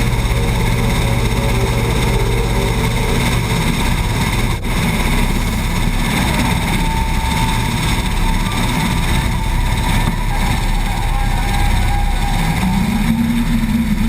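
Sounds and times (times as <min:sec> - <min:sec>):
helicopter rotor and turbine whine: 0:00.0 - 0:13.1.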